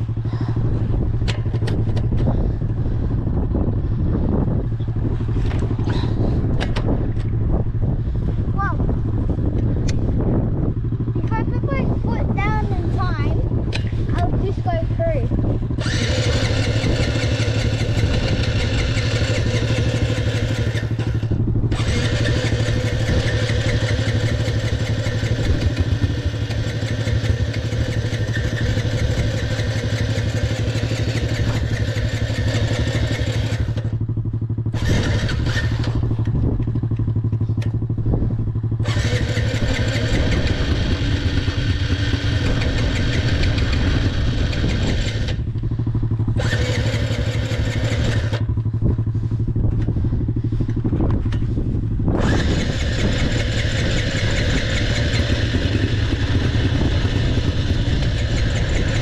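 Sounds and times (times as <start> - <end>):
dirt bike engine idling: 0.0 - 59.0.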